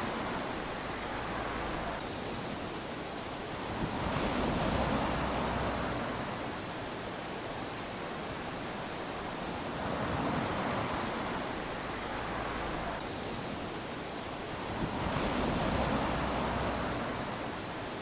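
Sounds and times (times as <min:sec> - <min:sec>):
small waves lapping on sand: 0:00.0 - 0:18.0.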